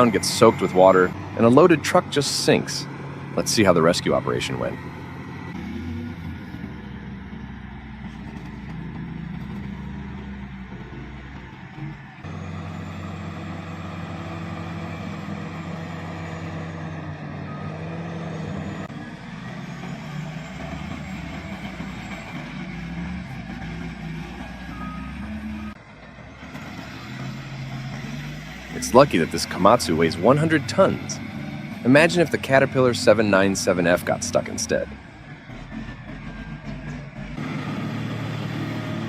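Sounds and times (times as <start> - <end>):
heavy diesel engines running: 0.0 - 39.0.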